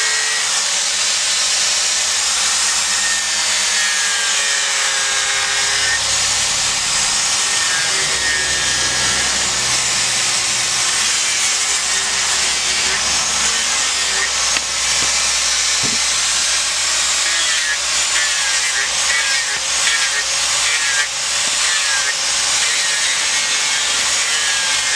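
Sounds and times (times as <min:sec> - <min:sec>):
angle grinder grinding wood: 0:00.0 - 0:24.9.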